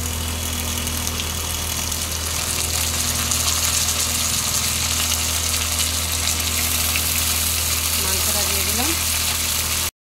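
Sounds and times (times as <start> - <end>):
meat sizzling in hot oil: 0.0 - 9.9
steady low hum: 0.0 - 9.9.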